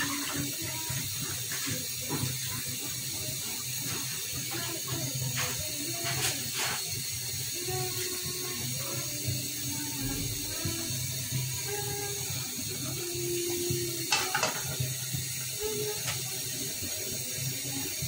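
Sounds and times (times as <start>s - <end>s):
vegetables simmering in a pan: 0.0s - 18.0s.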